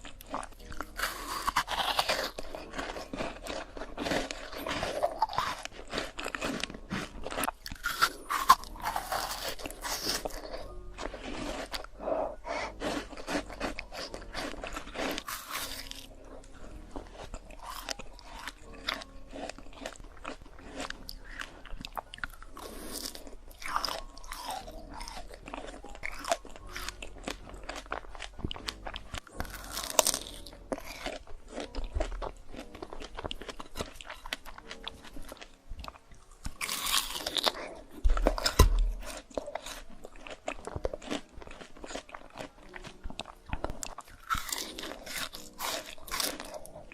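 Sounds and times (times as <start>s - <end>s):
person biting and chewing fruit: 0.0s - 46.9s.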